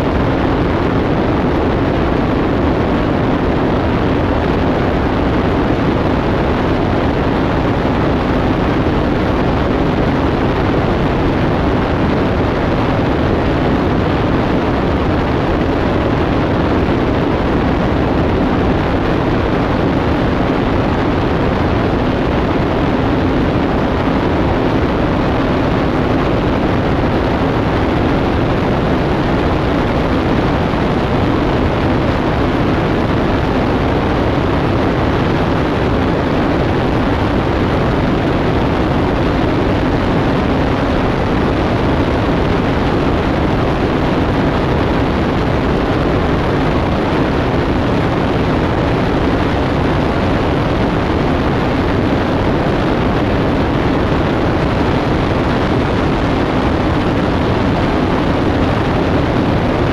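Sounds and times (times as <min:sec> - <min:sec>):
aircraft engine and propeller drone: 0:00.0 - 0:59.9
wind on microphone: 0:00.0 - 0:59.9.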